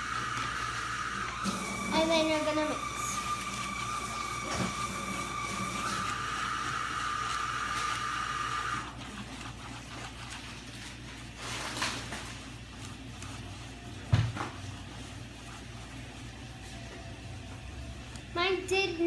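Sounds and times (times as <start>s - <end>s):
utensil scraping a paper plate: 1.6s - 17.0s.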